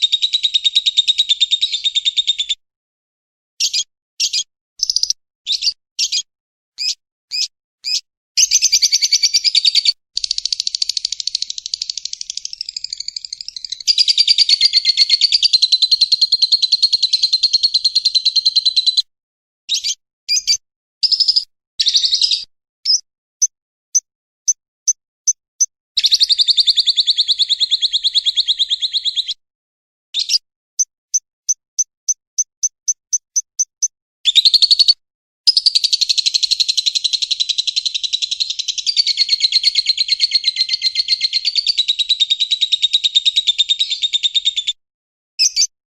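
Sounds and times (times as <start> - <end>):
bird chattering trill: 3.6 - 19.0, 19.7 - 24.0, 26.0 - 29.4, 30.2 - 30.4, 31.1 - 44.8, 45.4 - 45.7.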